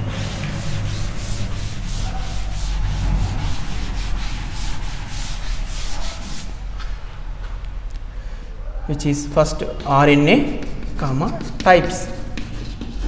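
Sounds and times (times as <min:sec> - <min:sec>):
duster rubbing blackboard: 0:00.0 - 0:06.8, 0:09.3 - 0:13.0.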